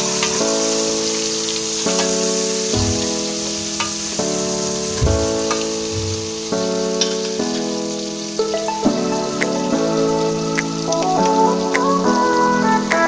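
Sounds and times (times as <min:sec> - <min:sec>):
background music chords: 0:00.0 - 0:13.0
shrimp sizzling in a pot: 0:00.0 - 0:13.0.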